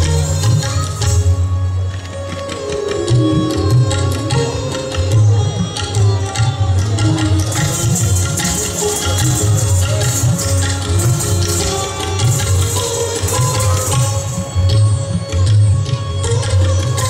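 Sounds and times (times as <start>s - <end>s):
tabla drumming: 0.0s - 17.0s.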